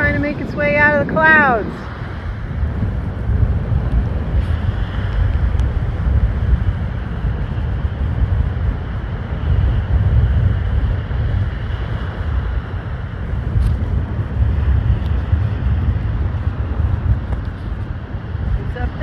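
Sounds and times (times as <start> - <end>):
surf breaking on the beach: 0.0 - 19.0
wind buffeting the microphone: 0.0 - 19.0.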